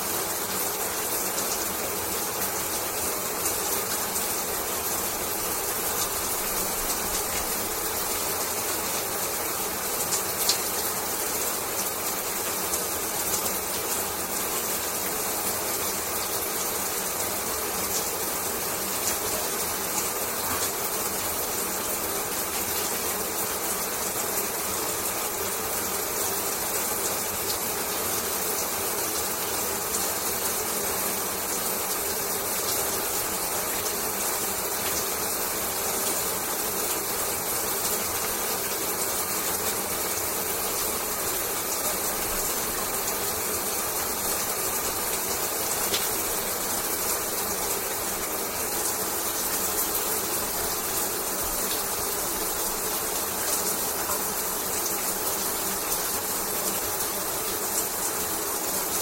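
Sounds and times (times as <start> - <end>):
shower water running: 0.0 - 59.0.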